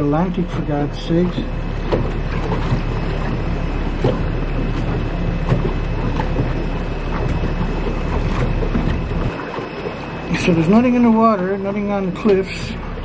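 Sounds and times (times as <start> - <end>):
boat engine rumble: 0.0 - 13.0
water slapping against hull: 0.0 - 13.0.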